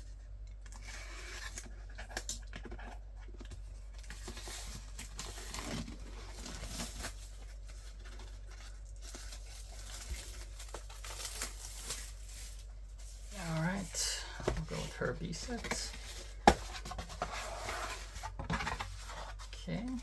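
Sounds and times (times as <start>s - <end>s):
packaging rustling and tearing: 0.7s - 20.0s.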